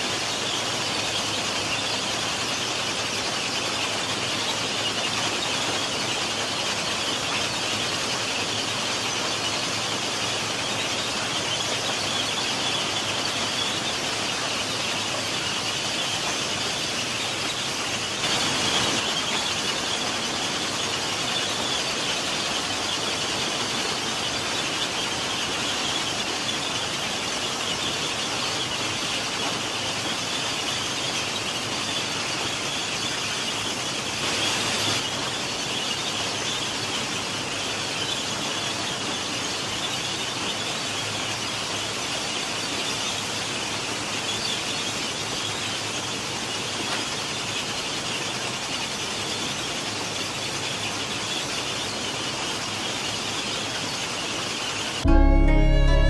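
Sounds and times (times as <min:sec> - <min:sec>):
high-pitched machine noise: 0:00.0 - 0:48.7.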